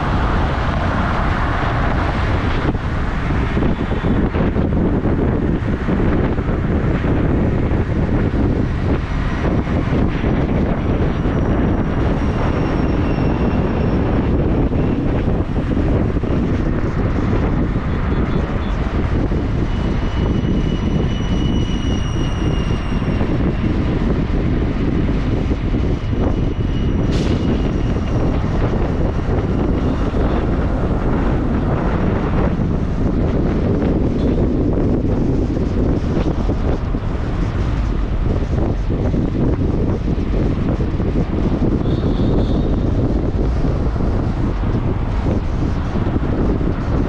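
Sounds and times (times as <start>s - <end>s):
vehicle rumble: 0.0s - 47.0s
wind buffeting microphone: 0.0s - 47.0s.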